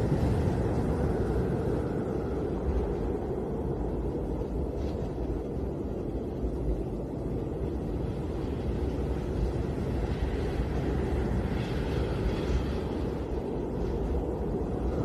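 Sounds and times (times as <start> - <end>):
snowstorm wind rushing: 0.0 - 15.0.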